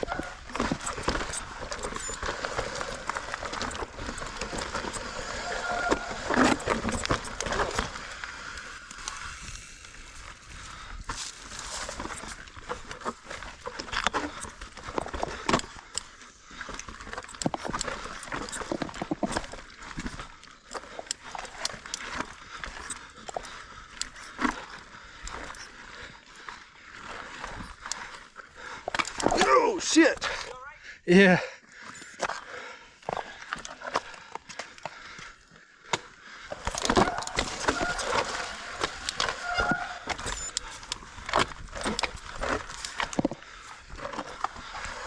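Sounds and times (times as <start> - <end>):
bike tyres rolling over rocks: 0.0 - 30.4, 33.0 - 45.0.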